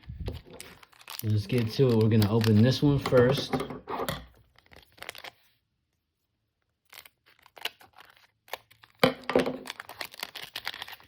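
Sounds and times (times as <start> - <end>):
foil wrapper crinkling and tearing: 0.0 - 3.3, 4.4 - 5.6, 6.6 - 11.0.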